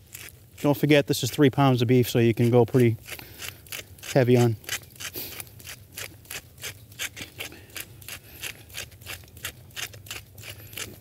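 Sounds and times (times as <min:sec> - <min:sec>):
spice mill grinding: 0:00.0 - 0:11.0.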